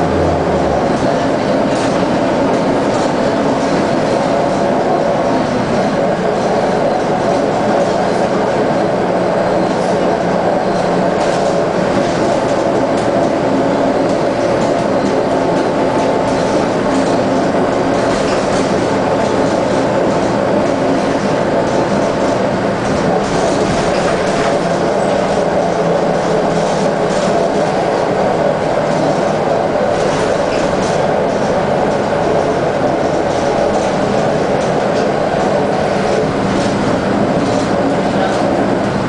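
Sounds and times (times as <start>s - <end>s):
bus diesel engine running: 0.0s - 39.0s
road and tyre noise: 0.0s - 39.0s.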